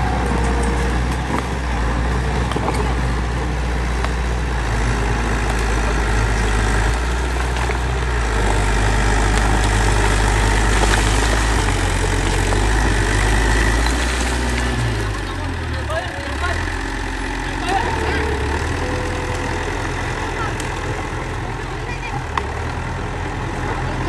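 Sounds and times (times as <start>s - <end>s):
heavy diesel engine humming: 0.0s - 24.0s.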